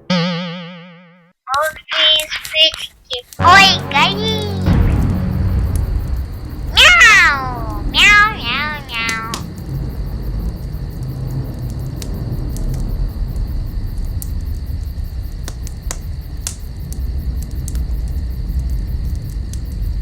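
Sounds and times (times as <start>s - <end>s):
fire crackling and popping: 2.1s - 20.0s
fire rumbling: 2.8s - 20.0s.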